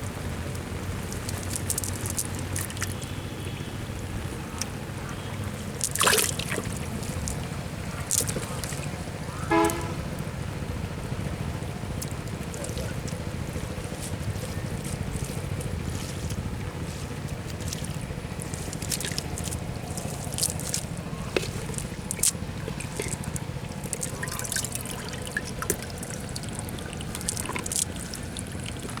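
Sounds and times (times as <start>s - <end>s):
water trickling and dripping: 0.0s - 29.0s.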